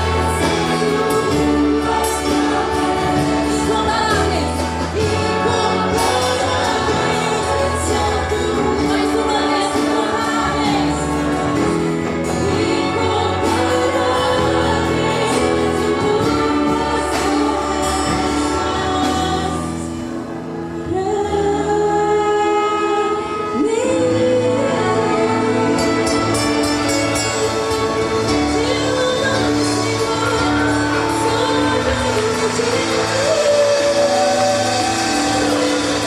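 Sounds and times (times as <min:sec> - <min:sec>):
choir singing a hymn: 0:00.0 - 0:36.0
instrumental accompaniment: 0:00.0 - 0:36.0.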